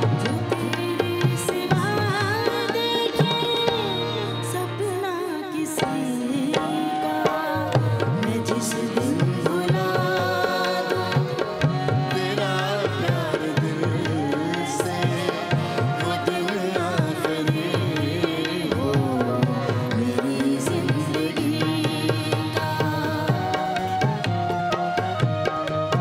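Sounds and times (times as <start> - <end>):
person singing: 0.0 - 25.1
harmonium: 0.0 - 26.0
tabla: 0.0 - 26.0.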